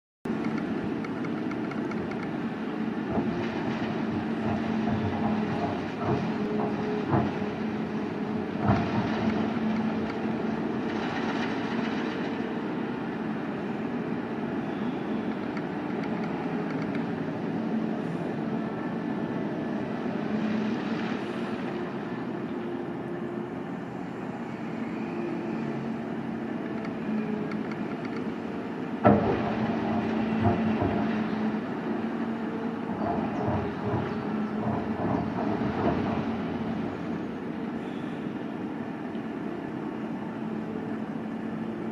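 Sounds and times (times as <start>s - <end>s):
excavator engine droning: 0.3s - 41.9s.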